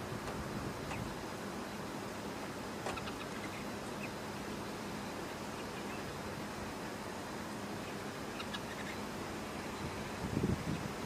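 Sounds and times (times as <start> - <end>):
steady rushing noise: 0.0 - 11.0
small bird calls: 0.8 - 11.0.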